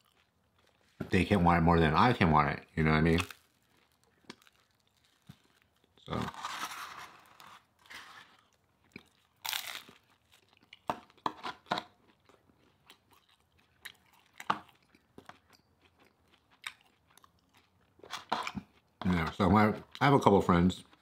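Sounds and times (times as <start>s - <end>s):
person chewing food: 0.0s - 1.0s, 3.1s - 6.2s, 7.2s - 20.0s.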